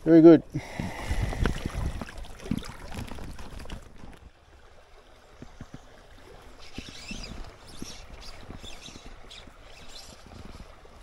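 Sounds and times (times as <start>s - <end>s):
stream running over its bed: 0.0s - 11.0s.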